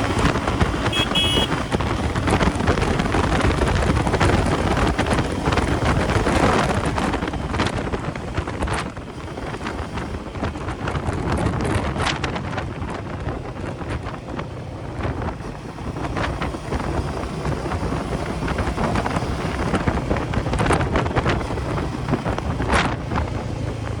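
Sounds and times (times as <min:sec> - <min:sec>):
motorcycle running noise: 0:00.0 - 0:24.0
wind buffeting microphone: 0:00.0 - 0:24.0.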